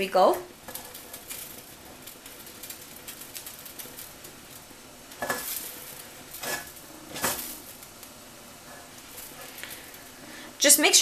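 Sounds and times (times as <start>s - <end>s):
water boiling in pot: 0.0s - 11.0s.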